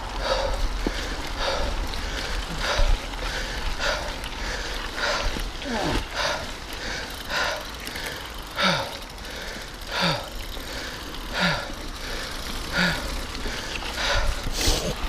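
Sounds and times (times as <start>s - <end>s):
low rumble of bike ride: 0.0s - 15.0s
person breathing hard with grunts: 0.1s - 15.0s.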